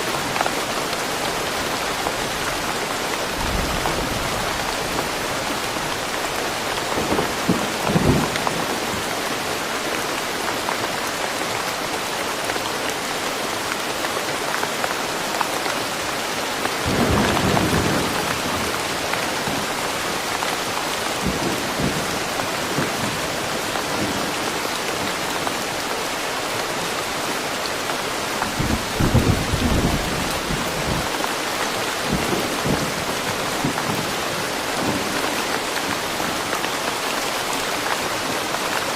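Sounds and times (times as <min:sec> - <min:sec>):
rain falling in woodland: 0:00.0 - 0:38.9.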